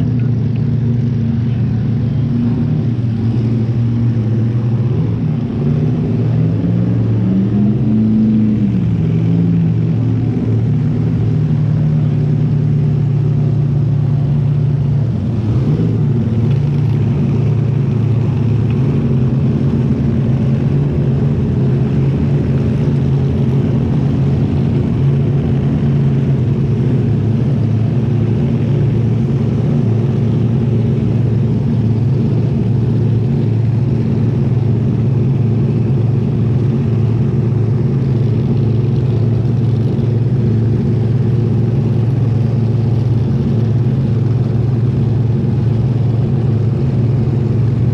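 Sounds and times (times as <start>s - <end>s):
dragster engine idling: 0.0s - 6.3s, 9.7s - 47.9s.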